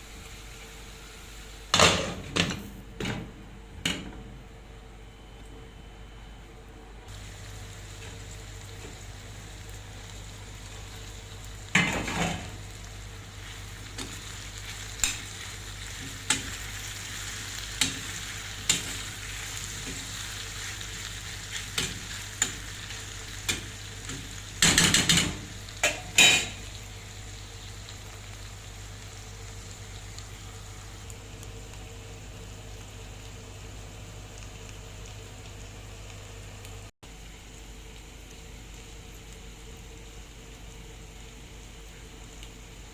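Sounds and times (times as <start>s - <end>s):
food sizzling in a pan: 0.0s - 2.8s, 7.1s - 42.9s.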